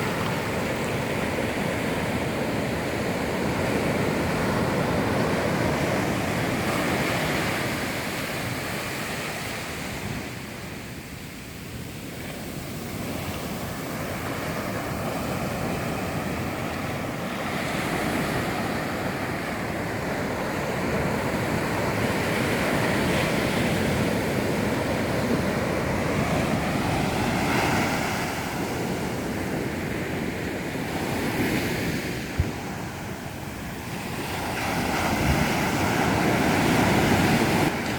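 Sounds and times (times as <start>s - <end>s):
sea surf washing onto beach: 0.0s - 37.9s.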